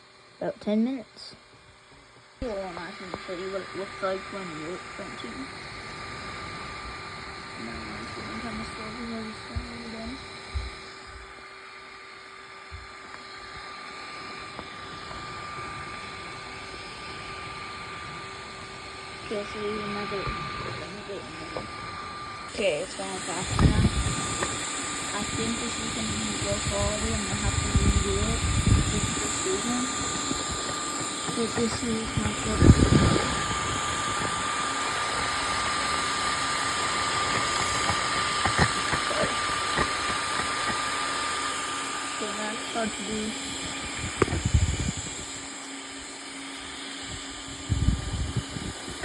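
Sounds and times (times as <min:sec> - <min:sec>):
printer fans and motors whirring: 0:00.0 - 0:49.0
high whine: 0:02.4 - 0:49.0.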